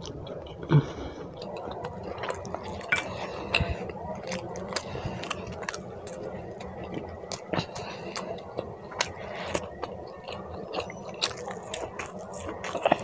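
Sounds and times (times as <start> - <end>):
mouth clicks and smacks chewing: 0.0 - 13.0.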